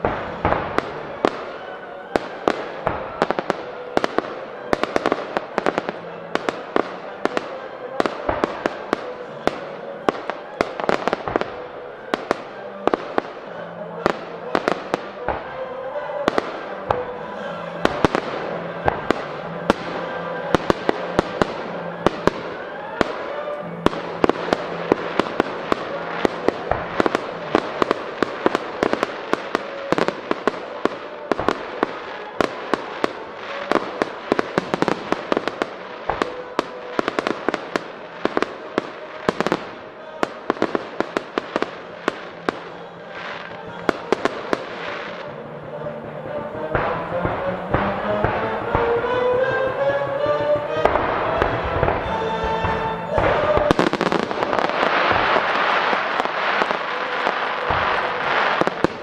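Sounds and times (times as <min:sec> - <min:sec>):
fireworks bangs and crackling: 0:00.0 - 0:59.0
music playing: 0:00.0 - 0:59.0.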